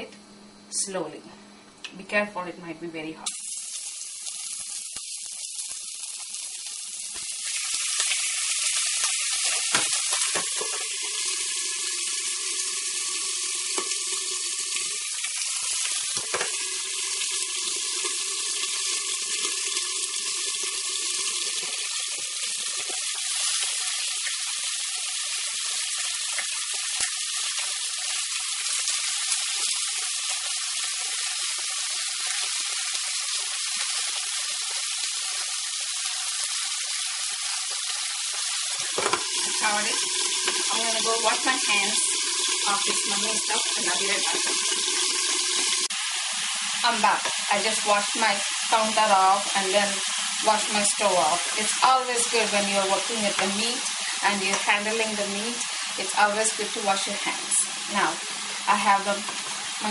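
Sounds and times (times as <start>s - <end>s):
meat sizzling in hot oil: 3.2s - 59.9s.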